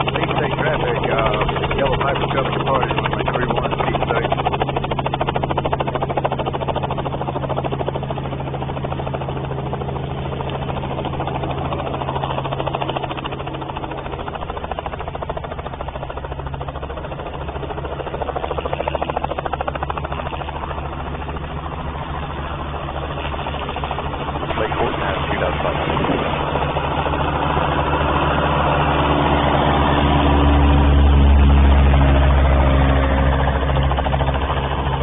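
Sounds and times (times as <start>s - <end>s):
helicopter engine and rotors droning: 0.0s - 35.0s.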